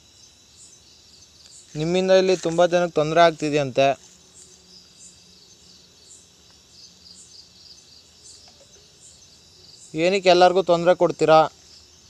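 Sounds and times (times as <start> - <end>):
background hiss: 0.0 - 12.0
high-pitched insect chirping: 0.0 - 12.0.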